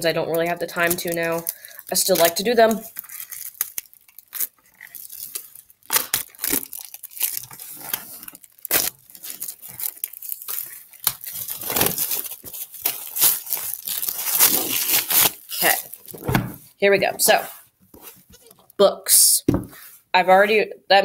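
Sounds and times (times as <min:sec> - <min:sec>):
plastic wrap tearing and crinkling: 0:00.0 - 0:16.7, 0:17.9 - 0:18.8.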